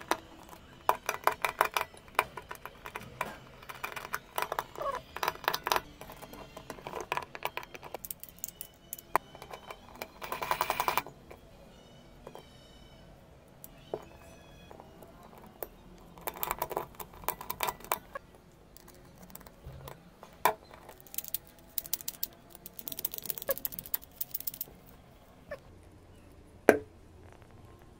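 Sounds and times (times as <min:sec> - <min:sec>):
lock parts clicking and rattling: 0:00.0 - 0:11.5, 0:13.6 - 0:25.0.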